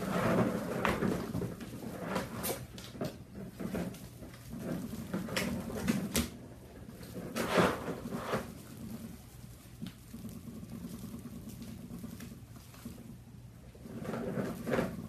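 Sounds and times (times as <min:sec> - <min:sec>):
kittens scuffling: 0:00.0 - 0:15.0.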